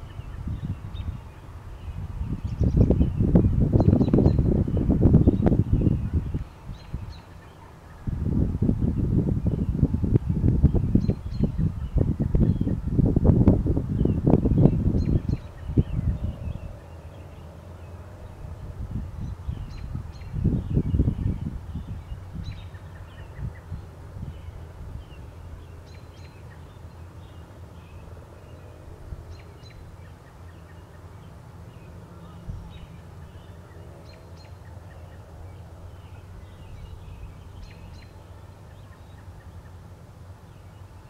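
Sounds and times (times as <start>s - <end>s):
steady low rumble: 0.0s - 39.1s
wild birds chirping: 0.0s - 41.0s.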